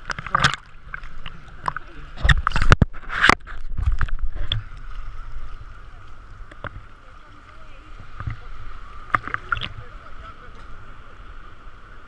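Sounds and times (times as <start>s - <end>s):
muffled underwater gurgling: 0.0s - 12.0s
water splashing: 0.0s - 12.0s.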